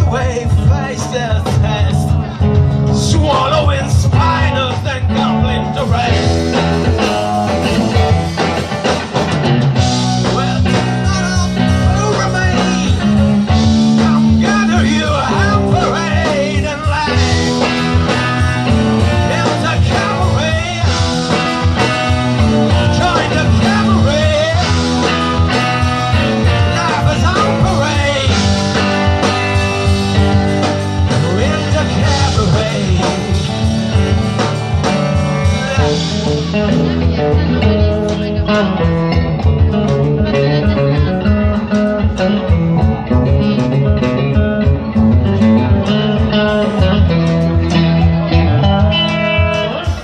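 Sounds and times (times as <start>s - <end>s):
electric guitar bending notes: 0.0s - 50.0s
steady drum beat: 0.0s - 50.0s
sustained bass notes: 0.0s - 50.0s.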